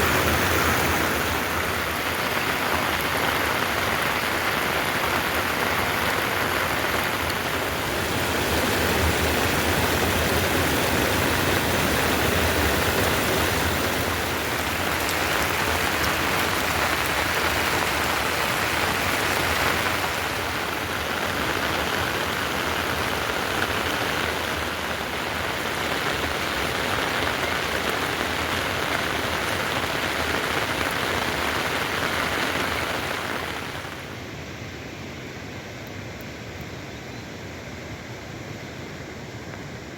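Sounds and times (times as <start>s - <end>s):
heavy rain falling: 0.0s - 34.3s.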